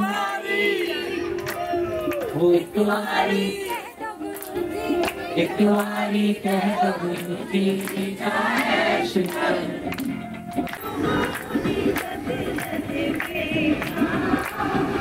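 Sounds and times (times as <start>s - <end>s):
group singing devotional song: 0.0s - 1.6s, 2.3s - 15.0s.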